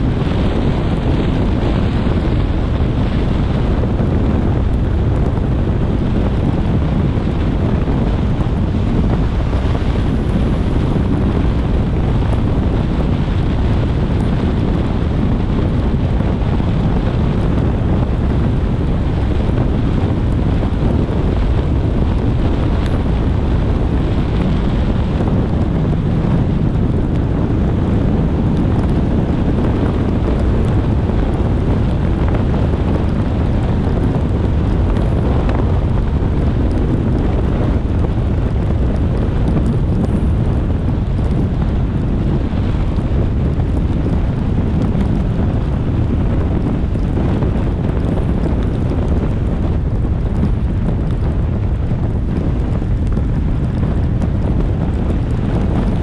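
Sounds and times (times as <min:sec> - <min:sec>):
car road noise on a wet road: 0:00.0 - 0:56.0
wind rumbling on the microphone: 0:00.0 - 0:56.0.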